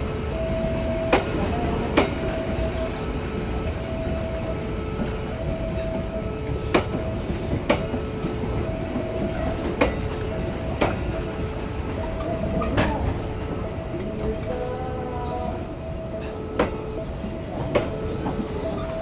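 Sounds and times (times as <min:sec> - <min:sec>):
train wheels clacking on rails: 0:00.0 - 0:19.0
two-tone signal: 0:00.2 - 0:19.0.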